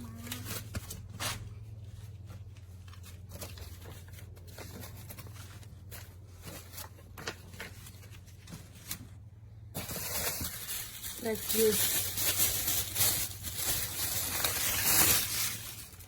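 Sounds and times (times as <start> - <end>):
cardboard packaging rustling: 0.0 - 16.0.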